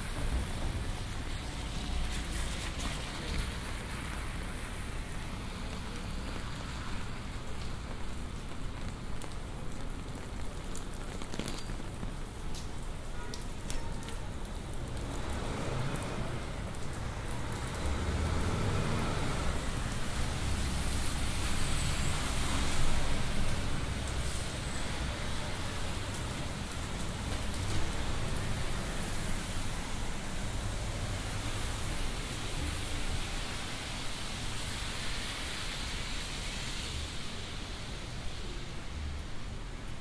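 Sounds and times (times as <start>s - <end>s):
low city rumble: 0.0s - 40.0s
rain pattering on an umbrella: 0.0s - 40.0s.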